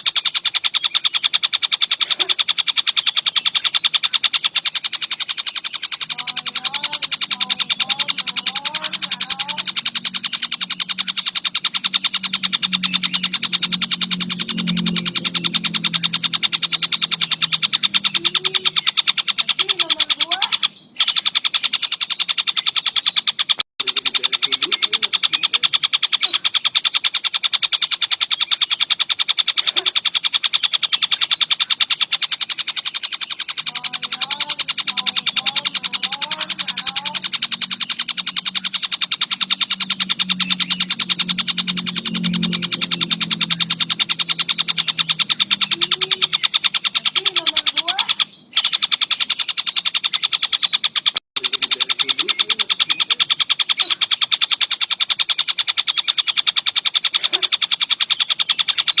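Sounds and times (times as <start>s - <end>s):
kingfisher high-pitched chatter: 0.0s - 59.0s.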